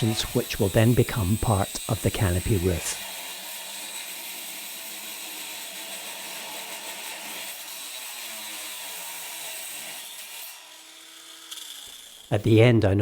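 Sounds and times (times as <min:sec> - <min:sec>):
power tool cutting sheet metal: 0:00.0 - 0:12.3.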